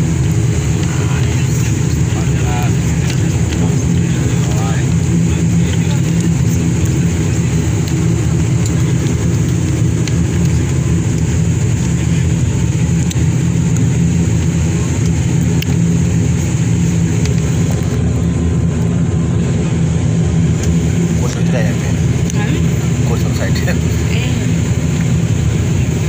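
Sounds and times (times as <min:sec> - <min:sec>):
turboprop engines droning: 0:00.0 - 0:26.0.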